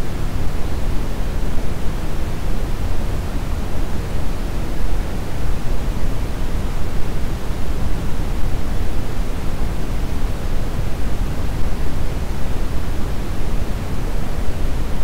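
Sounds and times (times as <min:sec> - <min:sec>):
brown noise rushing hiss: 0:00.0 - 0:15.0.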